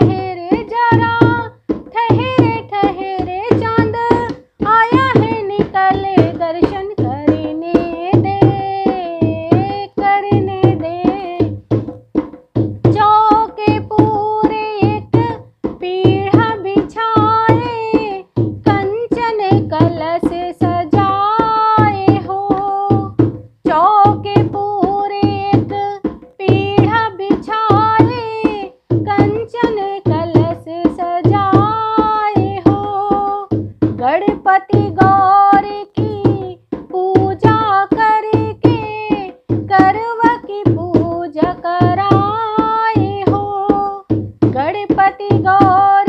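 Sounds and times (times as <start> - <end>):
woman singing devotional song: 0.0 - 11.9, 12.8 - 46.0
hand drum beat: 0.0 - 46.0.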